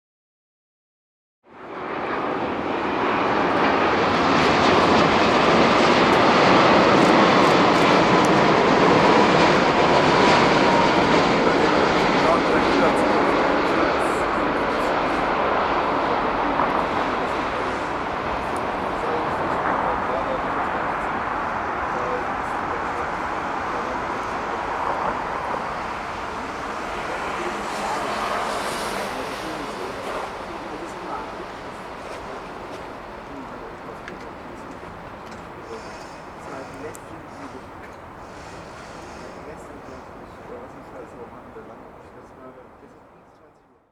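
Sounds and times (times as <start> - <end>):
jet engines roaring: 1.5 - 43.1
faint jet whine: 1.5 - 43.6.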